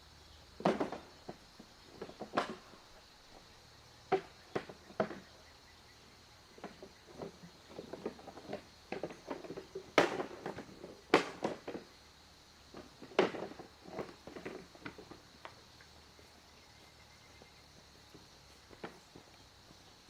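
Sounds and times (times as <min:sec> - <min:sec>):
high insect drone: 0:00.0 - 0:20.0
knocks and rustles of handling: 0:00.6 - 0:03.5, 0:04.1 - 0:05.5, 0:06.5 - 0:12.0, 0:12.7 - 0:16.4, 0:17.3 - 0:20.0.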